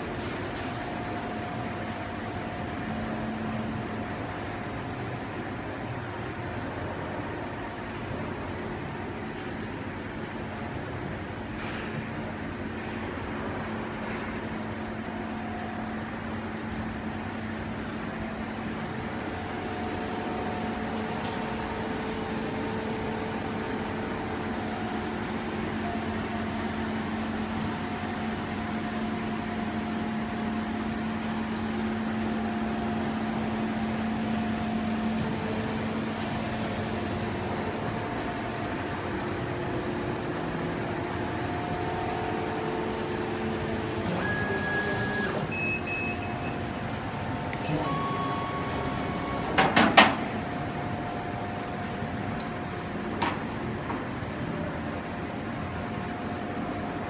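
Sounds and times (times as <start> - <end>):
machinery hum and whoosh: 0.0 - 57.0.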